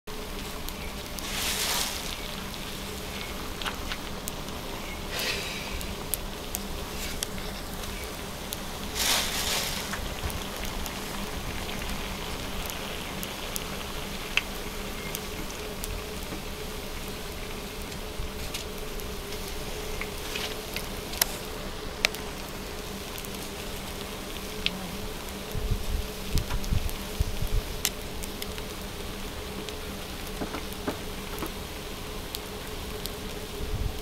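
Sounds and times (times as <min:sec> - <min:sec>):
faint steady hum: 0:00.1 - 0:34.0
food sizzling and crackling: 0:00.1 - 0:34.0.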